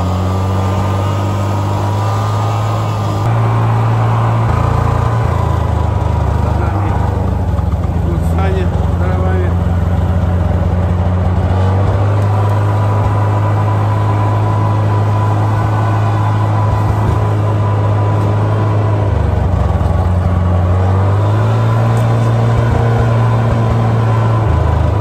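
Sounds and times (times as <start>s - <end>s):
snow vehicle engine running: 0.0s - 25.0s.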